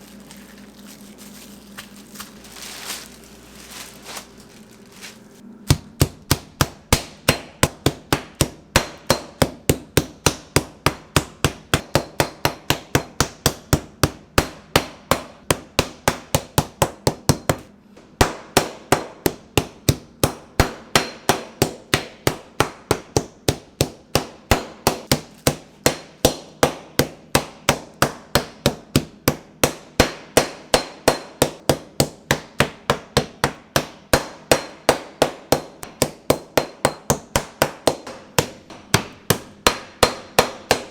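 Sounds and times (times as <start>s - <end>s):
meat mallet pounding meat: 5.7s - 40.9s.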